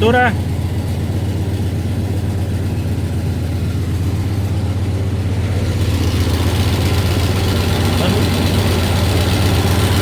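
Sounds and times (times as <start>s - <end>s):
car engine idling: 0.0s - 10.0s
exhaust leak noise: 0.0s - 10.0s.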